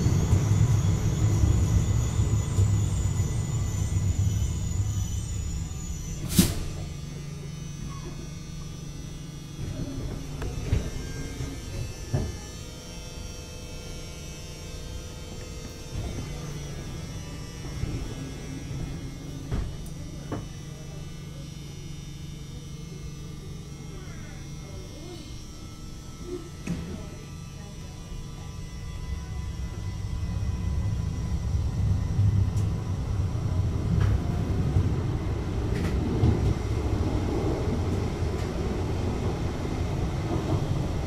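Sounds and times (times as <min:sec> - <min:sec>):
tram electrical hum: 0:00.0 - 0:41.0.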